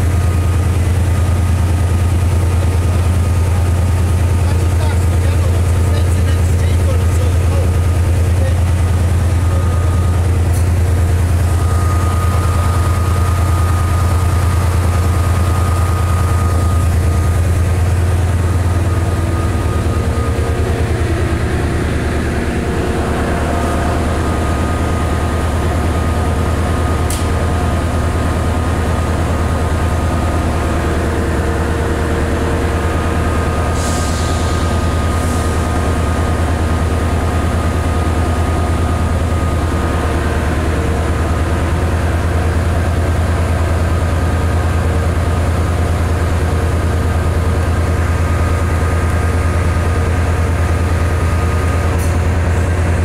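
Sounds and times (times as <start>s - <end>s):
diesel locomotive engine idling: 0.0s - 53.0s.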